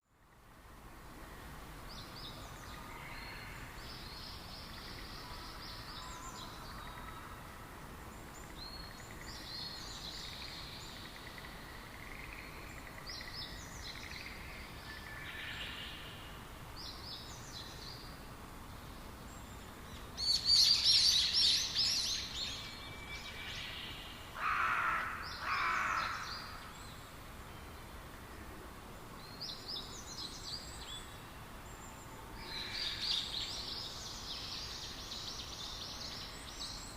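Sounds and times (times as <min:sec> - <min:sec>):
steady background hiss: 0:00.0 - 0:36.9.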